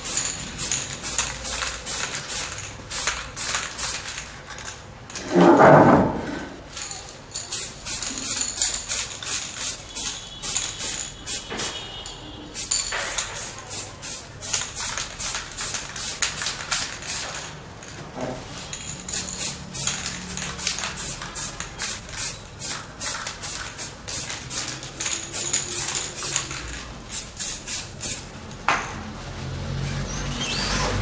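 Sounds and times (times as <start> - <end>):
spray can ball rattling: 0.0 - 5.2, 6.7 - 28.7.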